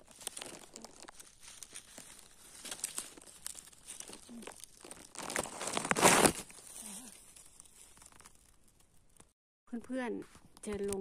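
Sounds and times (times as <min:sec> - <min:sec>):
dry leaves rustling and crackling: 0:00.0 - 0:09.3.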